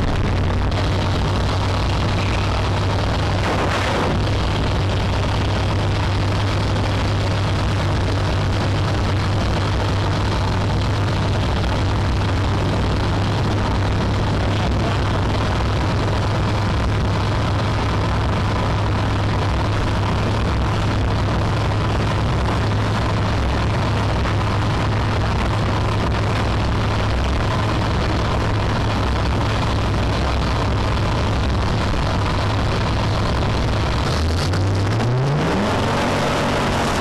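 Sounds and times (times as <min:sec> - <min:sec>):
rush of wind and water: 0:00.0 - 0:37.0
speed boat engine droning: 0:00.0 - 0:37.0.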